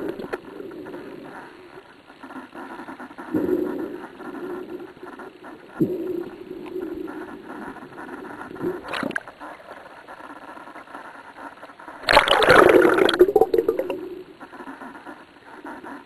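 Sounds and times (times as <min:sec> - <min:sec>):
underwater bubbling: 0:00.0 - 0:10.1, 0:12.0 - 0:15.8
steady low hum: 0:00.0 - 0:16.0.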